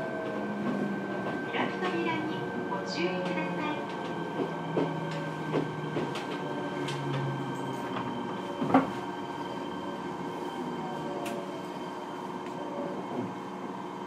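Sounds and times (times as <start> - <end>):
train car equipment hum: 0.0 - 14.0.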